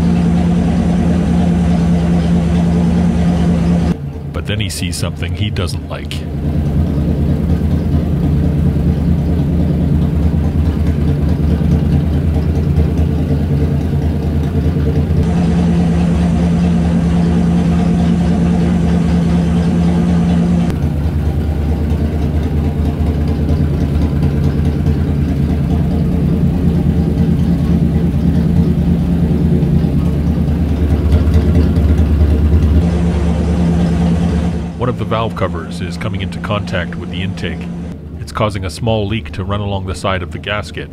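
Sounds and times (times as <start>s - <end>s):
engine running smoothly: 0.0s - 40.9s.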